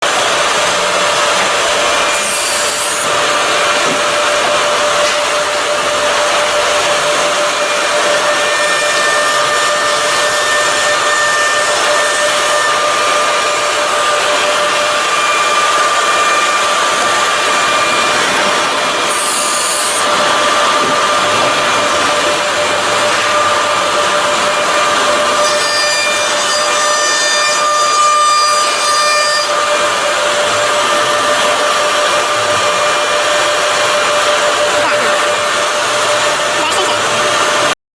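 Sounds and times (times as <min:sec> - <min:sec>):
cnc router spindle whine: 0:00.0 - 0:37.7
router bit cutting wood: 0:00.0 - 0:37.8.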